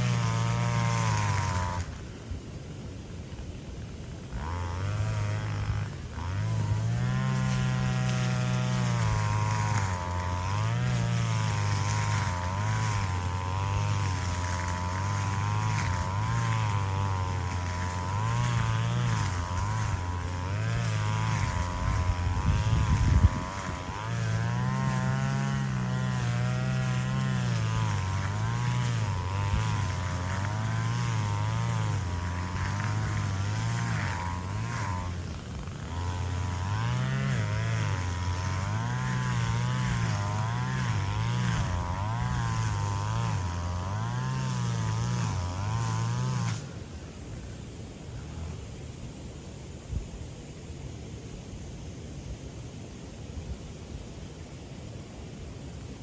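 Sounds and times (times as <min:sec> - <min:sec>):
petrol grass cutter engine: 0:00.0 - 0:48.9.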